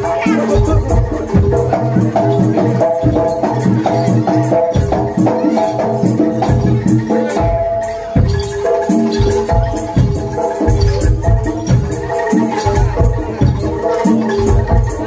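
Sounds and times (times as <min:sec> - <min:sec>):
deep drum beats: 0:00.0 - 0:15.0
gamelan music: 0:00.0 - 0:15.0.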